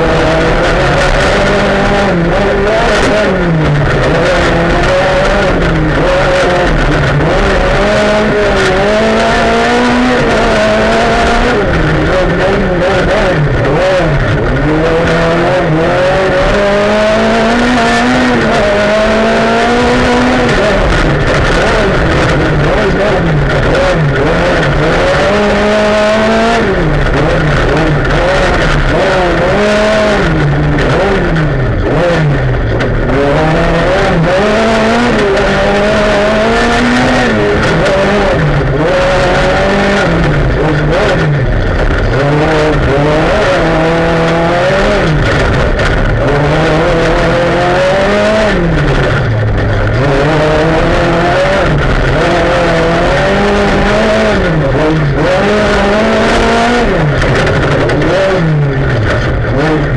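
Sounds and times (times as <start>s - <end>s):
rally car engine accelerating: 0.0s - 59.9s.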